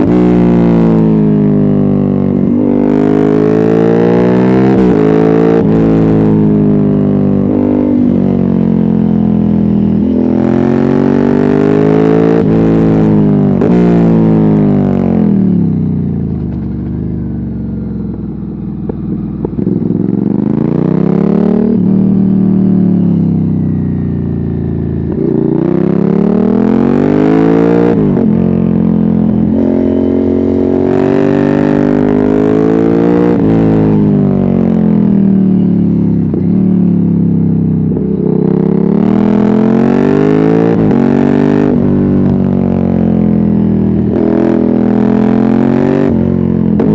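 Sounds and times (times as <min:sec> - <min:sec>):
motorcycle engine accelerating hard: 0:00.0 - 0:46.9.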